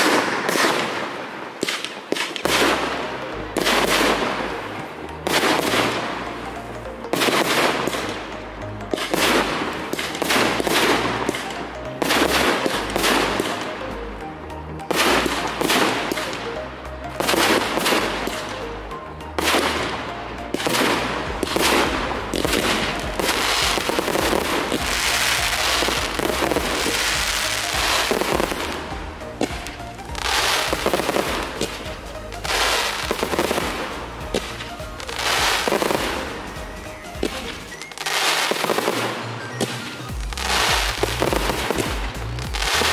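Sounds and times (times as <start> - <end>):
fireworks bursting: 0.0 - 42.9
music: 0.0 - 42.9.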